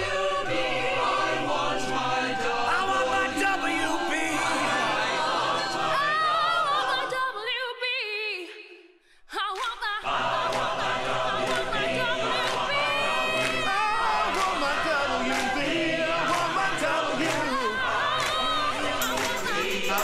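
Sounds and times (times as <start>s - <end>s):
choir singing: 0.0s - 7.8s, 9.8s - 20.0s.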